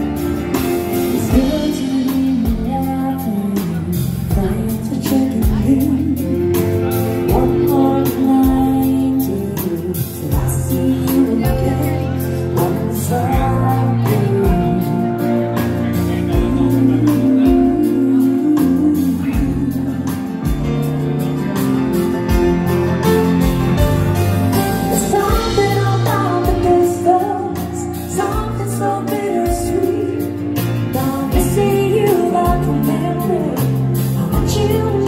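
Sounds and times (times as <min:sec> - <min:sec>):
woman singing: 0:00.0 - 0:20.8, 0:24.5 - 0:35.0
live band playing slow ballad: 0:00.0 - 0:35.0.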